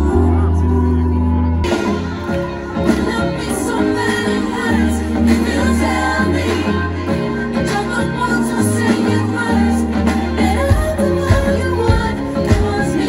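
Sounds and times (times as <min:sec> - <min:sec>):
group of singers: 0:00.0 - 0:13.0
live band music: 0:00.0 - 0:13.0.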